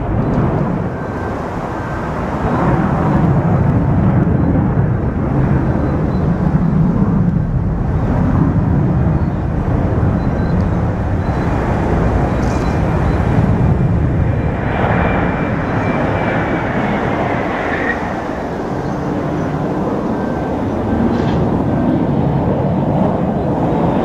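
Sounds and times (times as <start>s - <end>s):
jet engine high whine: 0.0s - 24.0s
jet engines rumbling: 0.0s - 24.0s.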